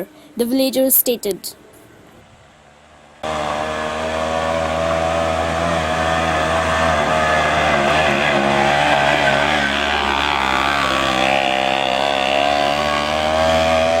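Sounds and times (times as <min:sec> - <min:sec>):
small engine running: 0:02.6 - 0:14.0.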